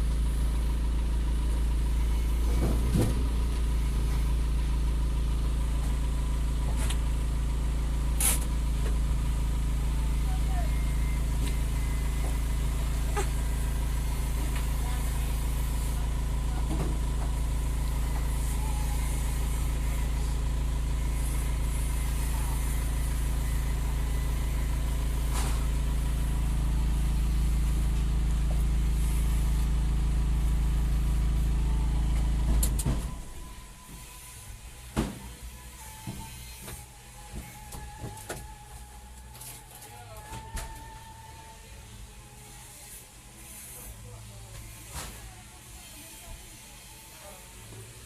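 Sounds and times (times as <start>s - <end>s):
large engine idling: 0.0s - 48.0s.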